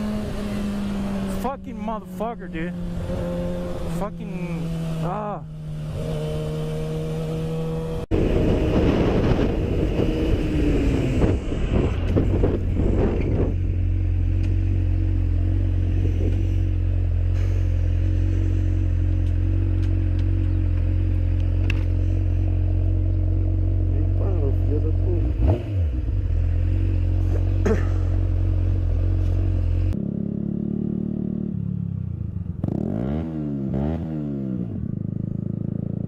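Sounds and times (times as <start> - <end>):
rushing road noise: 0.0 - 35.9
motorcycle engine running: 0.0 - 36.0.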